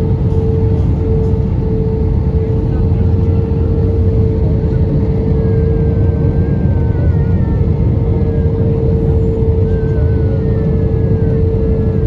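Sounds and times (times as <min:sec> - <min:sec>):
aircraft cabin engine rumble: 0:00.0 - 0:12.0
mid-pitched hum: 0:00.0 - 0:12.0.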